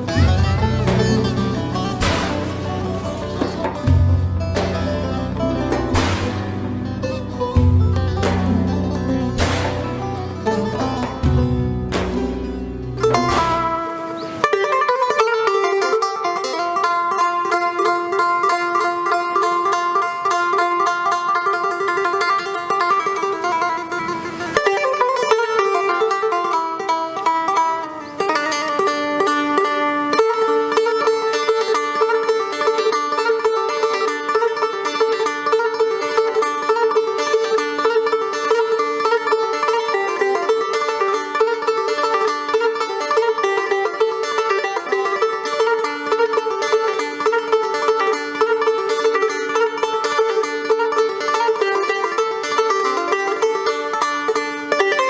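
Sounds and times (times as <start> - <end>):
plucked string instrument music: 0.0 - 55.0.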